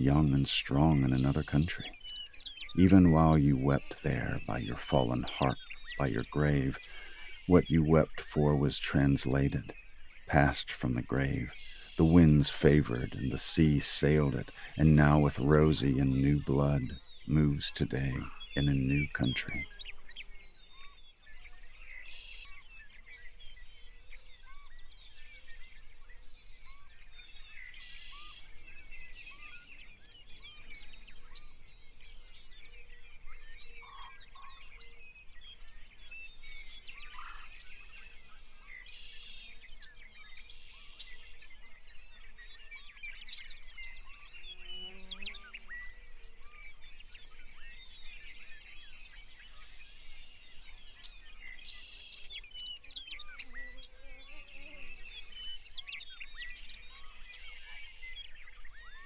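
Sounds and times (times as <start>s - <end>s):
lower bird calls: 0.0s - 59.0s
songbirds chirping and trilling: 0.0s - 59.0s.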